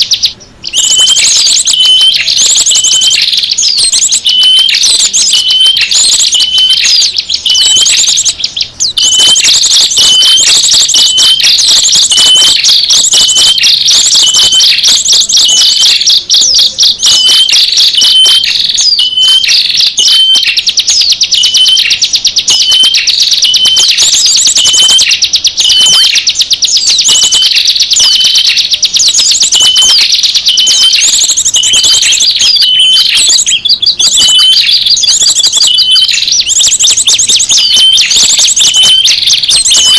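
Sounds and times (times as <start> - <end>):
small birds twittering and chirping: 0.0 - 39.9.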